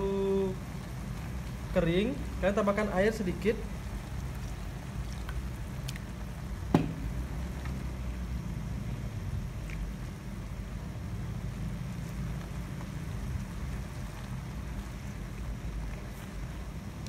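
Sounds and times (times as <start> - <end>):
meat simmering in a frying pan: 0.0 - 17.0.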